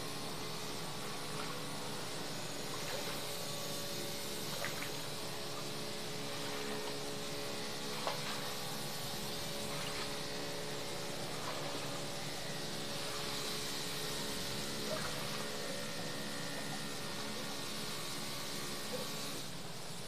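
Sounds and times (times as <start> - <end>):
small motor humming: 0.0 - 20.0.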